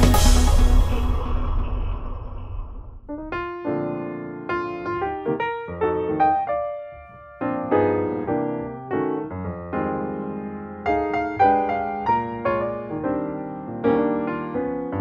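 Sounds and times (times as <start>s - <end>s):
piano music: 0.0s - 1.6s, 3.1s - 15.0s.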